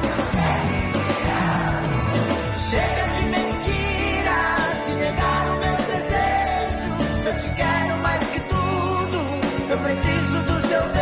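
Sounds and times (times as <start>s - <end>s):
pop music with singing: 0.0s - 11.0s.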